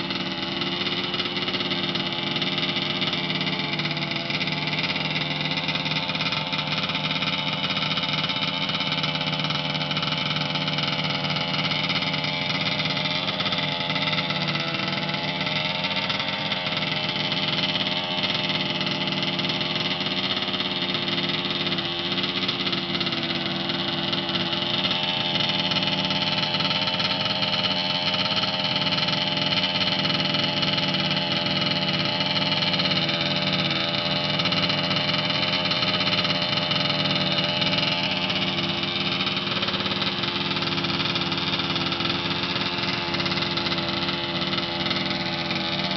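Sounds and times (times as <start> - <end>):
droning pipe hum: 0.0 - 45.9.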